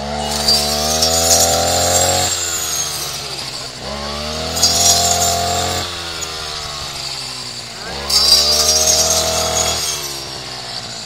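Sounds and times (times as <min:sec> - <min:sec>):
blade cutting bush stems: 0:00.0 - 0:10.9
brush cutter engine revving: 0:00.0 - 0:11.0.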